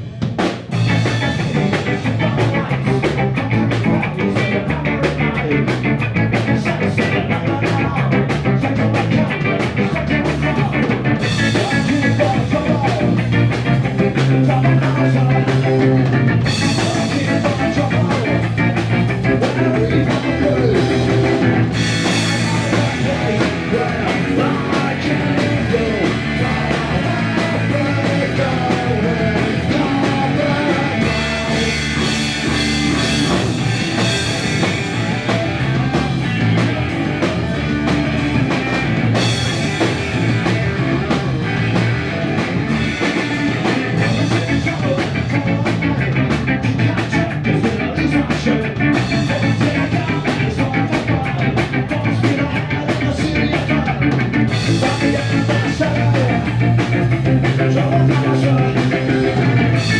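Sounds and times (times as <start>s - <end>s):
fast drumbeats: 0.0s - 59.9s
punk rock band playing: 0.0s - 59.9s.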